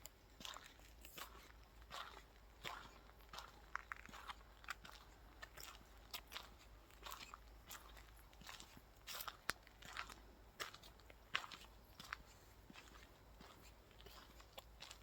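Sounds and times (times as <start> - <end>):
footsteps crunching on dry path: 0.4 - 15.0.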